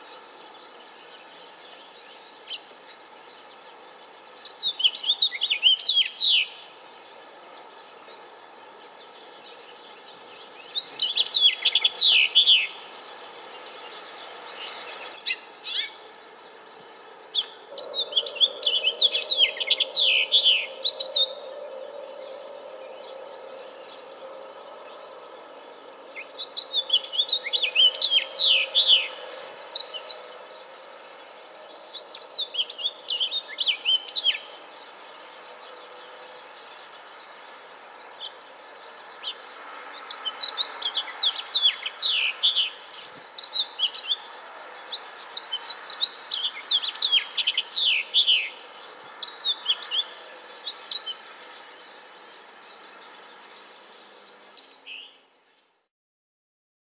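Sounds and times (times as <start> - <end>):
low background noise: 0.0 - 55.9.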